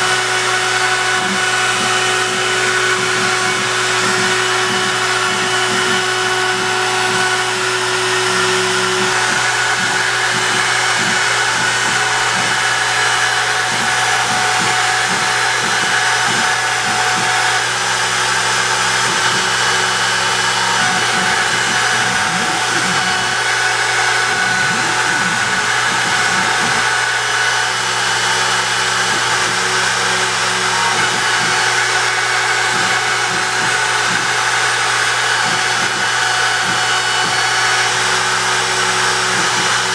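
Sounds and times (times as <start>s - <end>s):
router carving wood: 0.0s - 39.9s.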